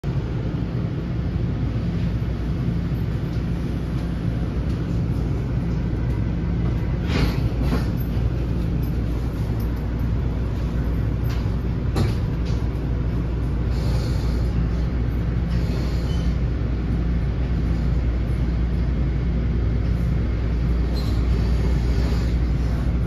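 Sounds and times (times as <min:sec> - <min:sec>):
moving train rumble: 0:00.0 - 0:23.0.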